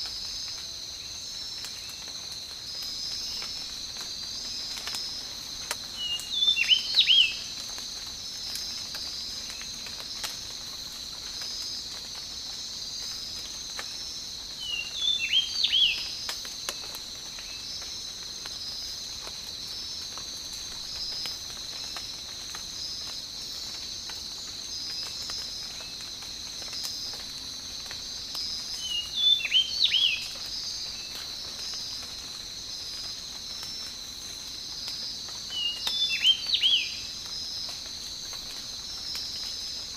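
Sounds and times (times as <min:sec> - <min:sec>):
insects chirping: 0:00.0 - 0:39.9
rain drops pattering: 0:00.0 - 0:39.9.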